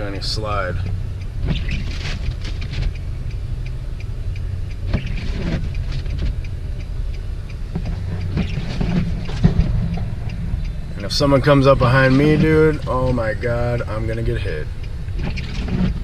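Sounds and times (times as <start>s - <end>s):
car engine idling inside cabin: 0.0s - 16.0s
faint ticks and rustles: 0.0s - 16.0s.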